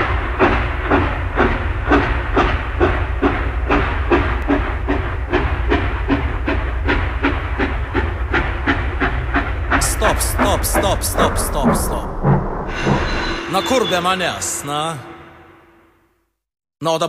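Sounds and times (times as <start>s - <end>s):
steam locomotive running: 0.0s - 15.7s.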